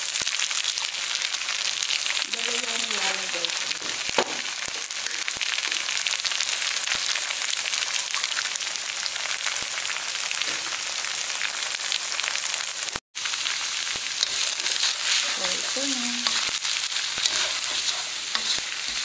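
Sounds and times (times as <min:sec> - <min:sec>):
eggs sizzling in hot oil: 0:00.0 - 0:19.0.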